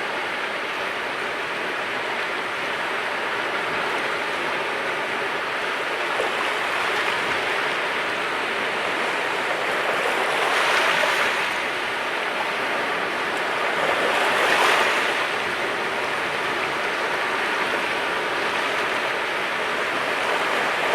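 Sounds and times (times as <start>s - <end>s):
sea waves washing ashore: 0.0s - 20.9s.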